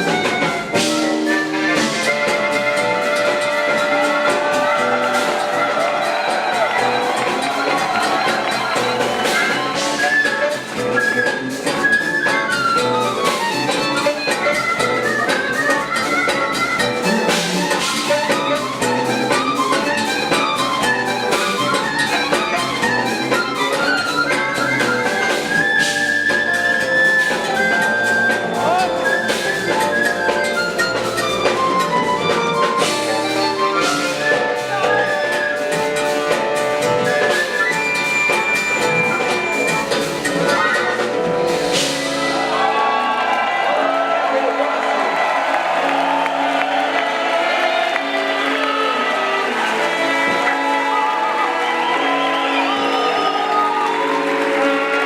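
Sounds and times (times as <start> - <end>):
drum kit: 0.0 - 55.0
fast melody runs: 0.0 - 55.0
jazz fusion band playing: 0.0 - 55.0.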